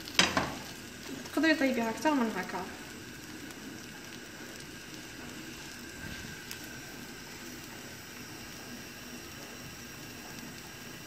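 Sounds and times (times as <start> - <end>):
crepe hissing in a frying pan: 0.0 - 11.0.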